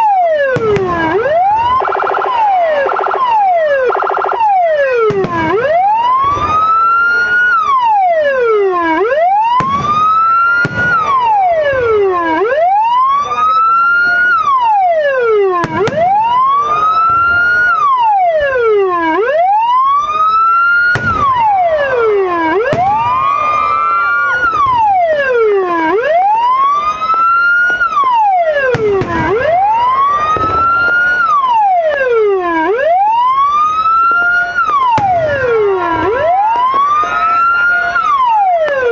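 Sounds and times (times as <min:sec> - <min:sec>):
siren wail rising and falling: 0:00.0 - 0:38.9.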